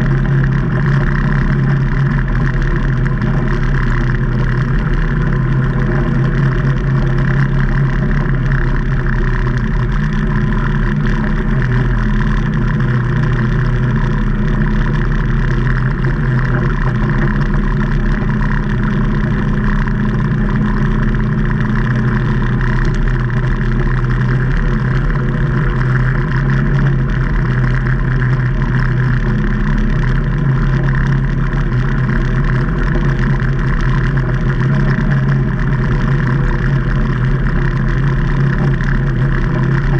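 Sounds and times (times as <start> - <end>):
engine droning steadily: 0.0 - 39.9.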